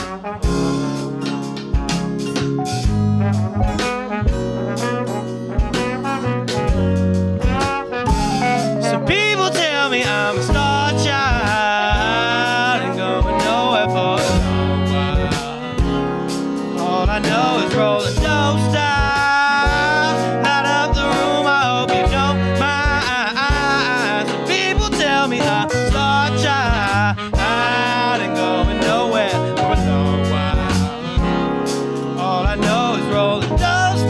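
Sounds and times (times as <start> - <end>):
hip-hop band playing: 0.0 - 34.0.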